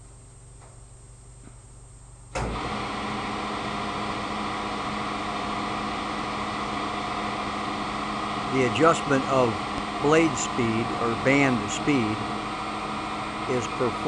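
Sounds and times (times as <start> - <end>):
band saw running: 2.5 - 14.0.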